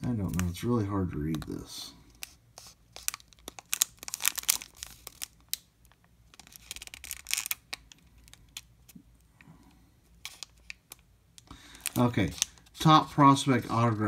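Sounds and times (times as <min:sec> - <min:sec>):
plastic wrapper crinkling: 0:01.2 - 0:09.0, 0:10.2 - 0:14.0.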